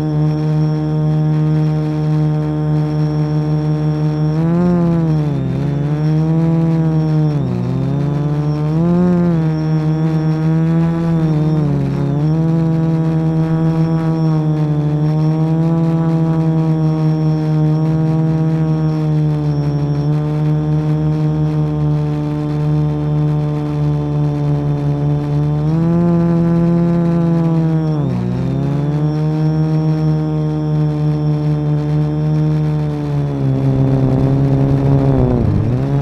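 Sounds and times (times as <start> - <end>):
quadcopter propellers buzzing: 0.0 - 36.0.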